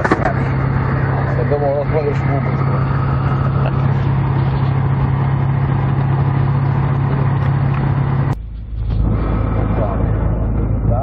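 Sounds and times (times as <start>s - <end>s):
aircraft engine droning: 0.0s - 11.0s
low rumble: 0.0s - 11.0s.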